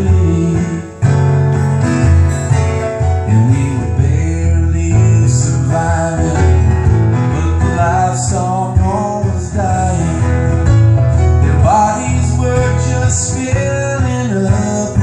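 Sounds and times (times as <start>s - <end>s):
person singing: 0.0s - 1.8s, 3.1s - 10.6s, 11.4s - 15.0s
acoustic guitar: 0.0s - 15.0s
grand piano: 0.0s - 15.0s.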